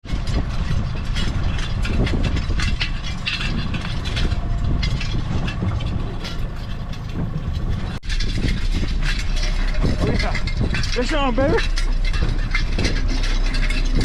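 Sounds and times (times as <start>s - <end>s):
boat motor rumble: 0.0s - 14.0s
sharp clicks and knocks: 0.0s - 14.0s
wind on microphone: 0.0s - 14.0s.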